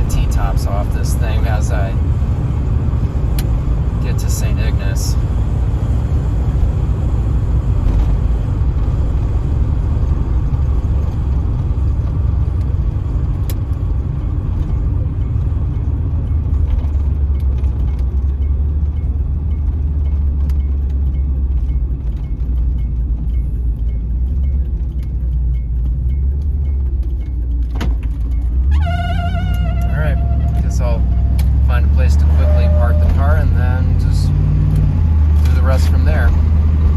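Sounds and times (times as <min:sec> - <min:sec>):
car engine and road noise: 0:00.0 - 0:36.9.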